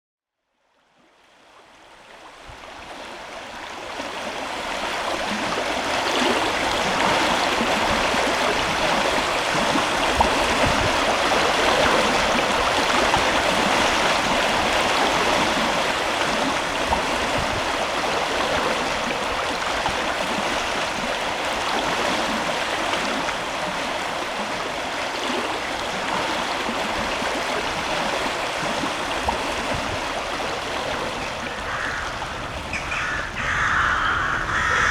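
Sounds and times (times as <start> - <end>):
running water rushing and gurgling: 0.8 - 34.9.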